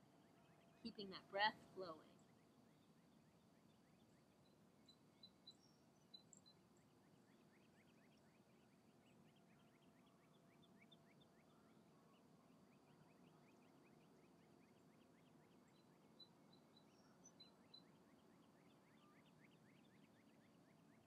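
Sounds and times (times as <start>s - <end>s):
distant bird calls: 0.0s - 21.0s.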